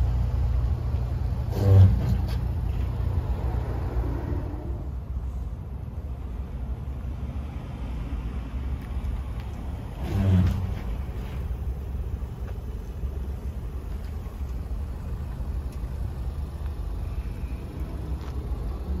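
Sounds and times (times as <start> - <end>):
car reversing rumble: 0.0 - 19.0.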